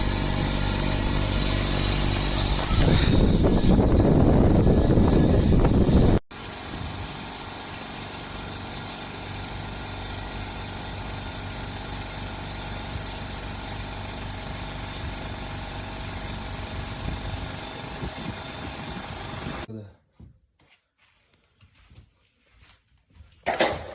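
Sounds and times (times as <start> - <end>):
electric air compressor running: 0.0 - 19.7
steady machine hum: 0.0 - 19.7.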